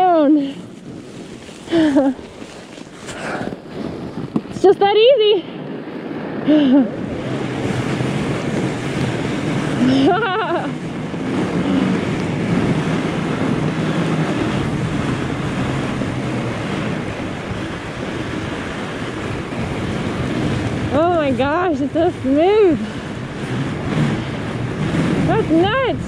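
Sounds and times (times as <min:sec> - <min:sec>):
tyres rushing on snow: 0:00.0 - 0:05.4, 0:06.3 - 0:26.0
wind buffeting microphone: 0:00.0 - 0:26.0.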